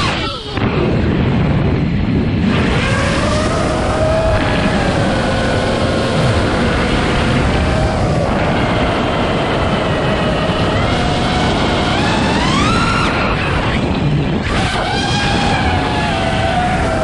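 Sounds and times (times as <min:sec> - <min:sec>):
rushing noise: 0:00.0 - 0:17.0
drone motors whining: 0:01.8 - 0:17.0.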